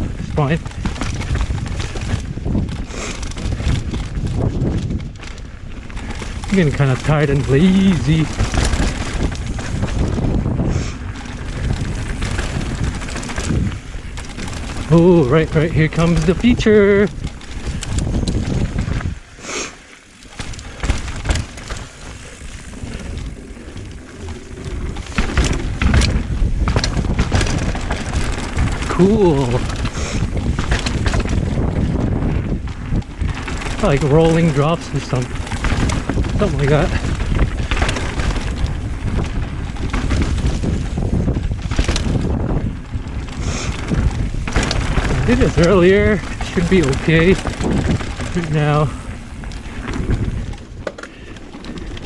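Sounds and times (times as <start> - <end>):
knocks and rattles: 0.0 - 19.2, 20.2 - 42.8, 43.6 - 52.0
bike tyres rolling over dirt: 0.0 - 52.0
wind buffeting microphone: 0.0 - 52.0.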